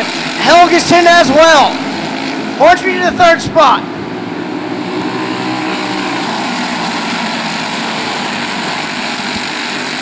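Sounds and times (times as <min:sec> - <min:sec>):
racing kart engines: 0:00.0 - 0:10.0.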